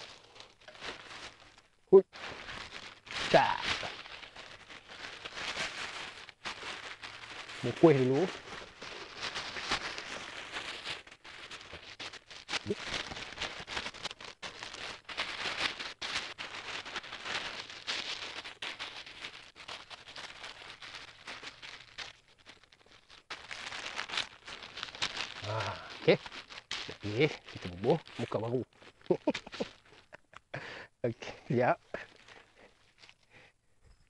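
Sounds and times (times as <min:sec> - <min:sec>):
plastic bag crinkling: 0:00.0 - 0:33.5.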